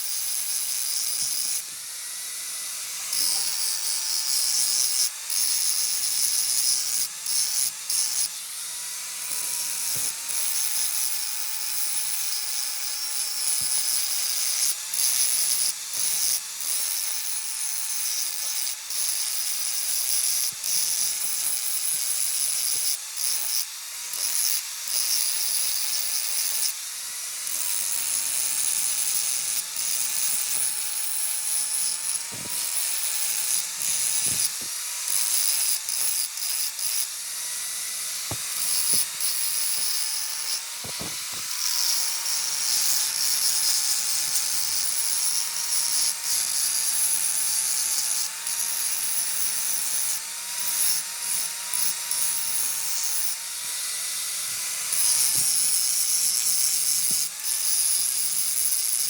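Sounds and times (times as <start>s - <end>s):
electric power tool on metal: 0.0s - 59.0s.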